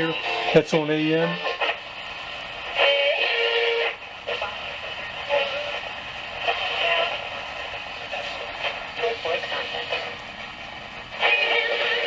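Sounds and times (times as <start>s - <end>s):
music with singing on radio: 0.0s - 12.0s.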